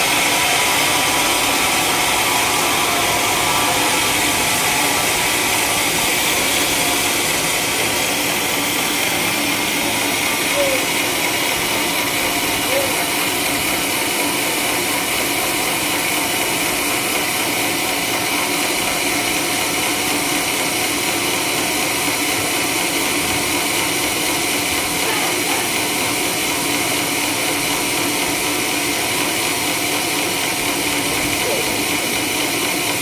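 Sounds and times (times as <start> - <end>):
sawmill sawing wood: 0.0 - 33.0.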